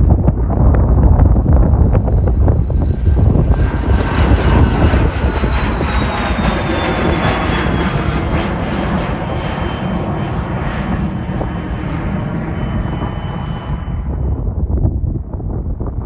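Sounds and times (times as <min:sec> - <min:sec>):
airliner engines rumbling: 0:00.0 - 0:16.0
high engine whine: 0:00.0 - 0:16.0.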